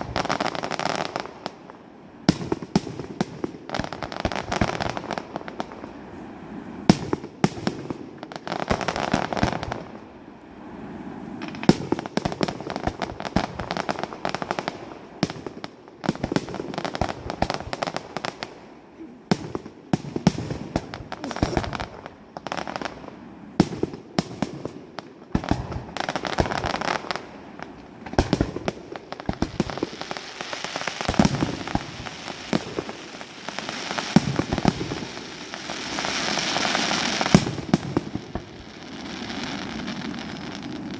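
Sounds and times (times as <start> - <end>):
fireworks bursting and crackling: 0.0 - 40.9.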